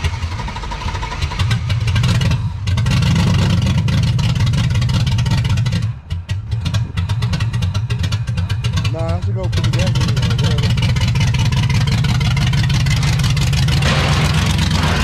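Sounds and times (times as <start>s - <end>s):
engine running and revving: 0.0s - 15.0s.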